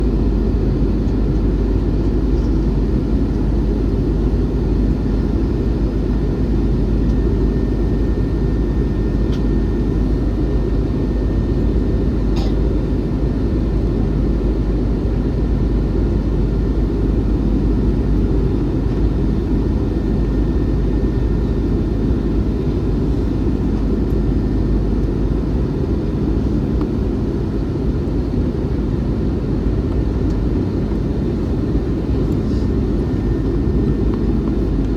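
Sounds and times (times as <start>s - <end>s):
airplane cabin engine rumble: 0.0s - 34.9s.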